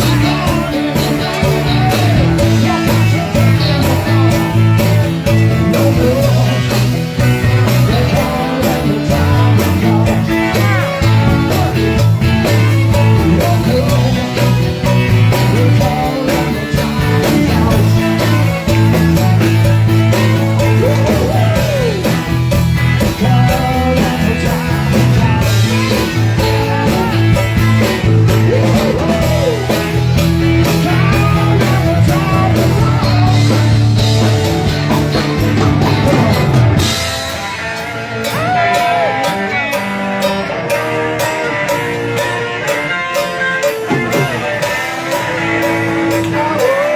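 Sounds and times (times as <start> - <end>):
bass guitar: 0.0 - 46.9
drums: 0.0 - 46.9
electric guitar: 0.0 - 46.9.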